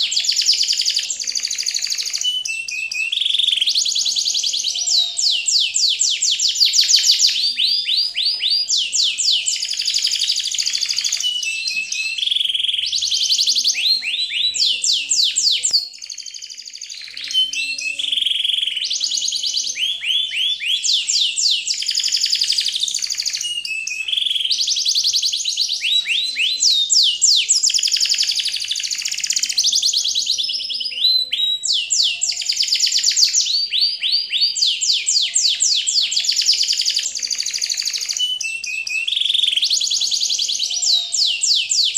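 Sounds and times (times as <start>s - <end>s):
bird-like chirping and trilling: 0.0s - 41.9s.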